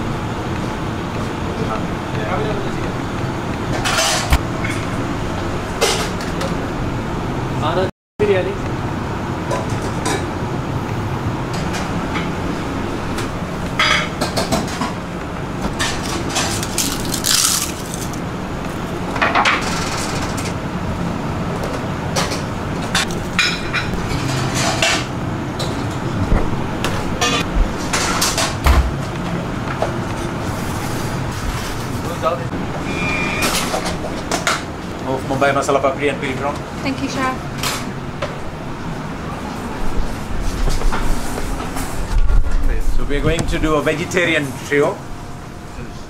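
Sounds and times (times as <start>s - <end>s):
kitchen ventilation hum: 0.0s - 46.0s.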